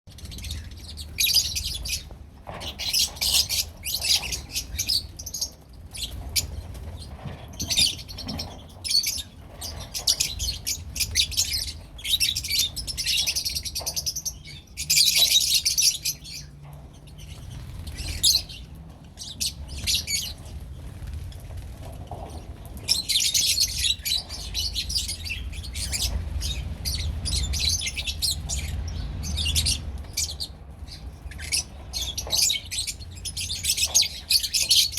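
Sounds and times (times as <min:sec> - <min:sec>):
lovebirds chirping: 0:00.1 - 0:21.5, 0:22.1 - 0:34.9.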